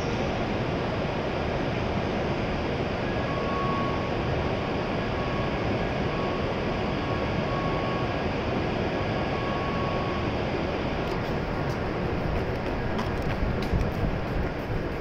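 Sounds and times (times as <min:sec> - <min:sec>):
train ventilation hum: 0:00.0 - 0:15.0.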